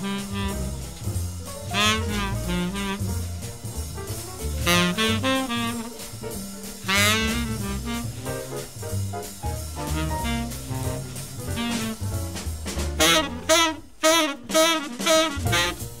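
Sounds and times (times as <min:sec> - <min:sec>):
double bass: 0:00.0 - 0:16.0
drums: 0:00.0 - 0:16.0
jazz tenor saxophone: 0:00.0 - 0:16.0
piano: 0:00.0 - 0:16.0.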